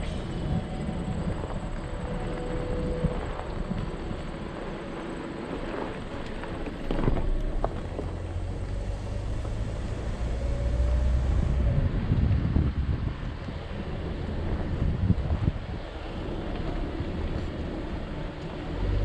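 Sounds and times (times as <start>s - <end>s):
wind on microphone: 0.0s - 18.9s
vehicle driving on gravel: 0.0s - 19.0s.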